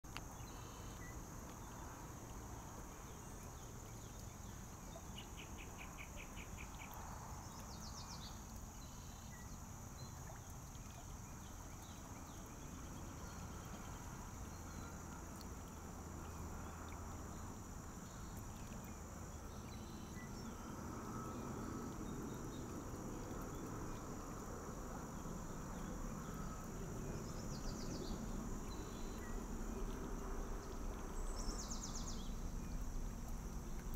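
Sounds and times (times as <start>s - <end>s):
stream rippling over gravel: 0.1s - 33.9s.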